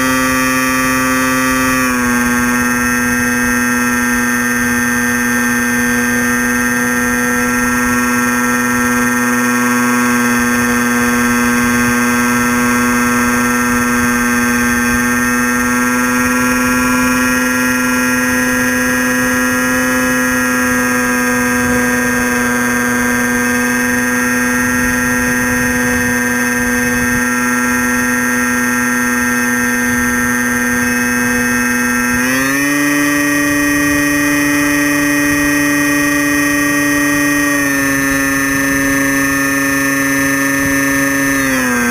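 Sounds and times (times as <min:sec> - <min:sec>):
model plane motor whine: 0:00.0 - 0:41.9.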